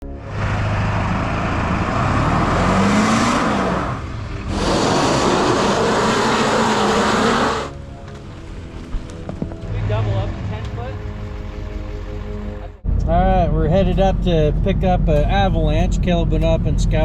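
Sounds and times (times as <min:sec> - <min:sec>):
motor vehicle engine running hard: 0:00.0 - 0:17.0.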